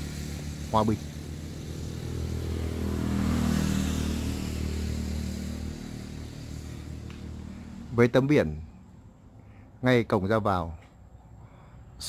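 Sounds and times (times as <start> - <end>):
vehicle passing on highway: 0.0 - 12.0.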